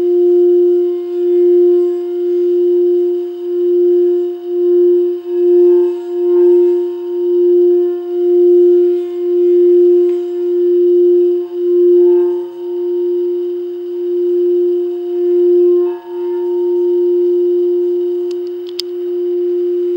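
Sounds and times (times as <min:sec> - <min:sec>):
singing bowl tone: 0:00.0 - 0:19.9.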